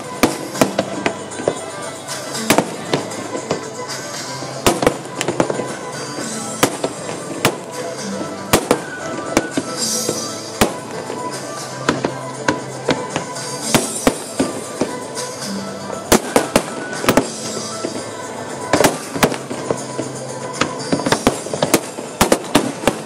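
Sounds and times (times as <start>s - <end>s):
fireworks bangs and cracks: 0.0s - 15.4s, 16.0s - 23.0s
music playing: 0.0s - 23.0s.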